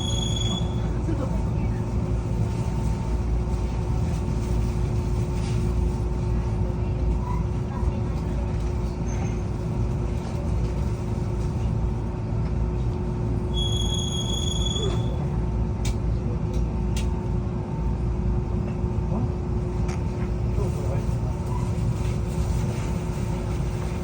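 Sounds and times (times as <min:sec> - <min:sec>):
electric train equipment humming: 0:00.0 - 0:24.0.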